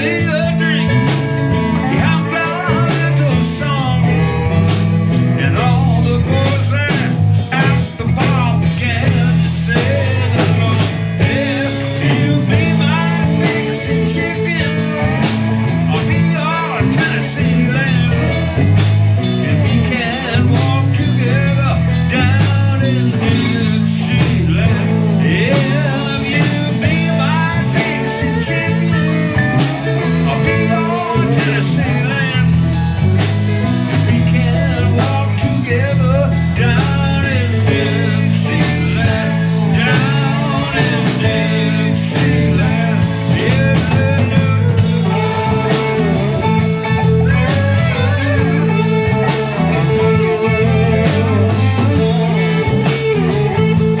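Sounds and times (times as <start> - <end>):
live blues rock band: 0.0 - 54.0
prominent bass line: 0.0 - 54.0.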